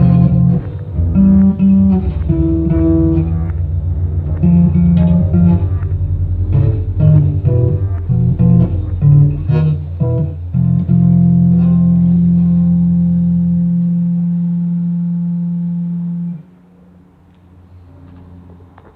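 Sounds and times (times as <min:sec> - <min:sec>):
guitar and bass playing: 0:00.0 - 0:16.4.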